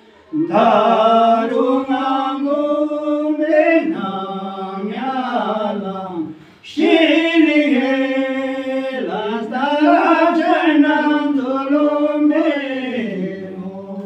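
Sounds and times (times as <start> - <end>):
men singing a chant: 0.3 - 14.0.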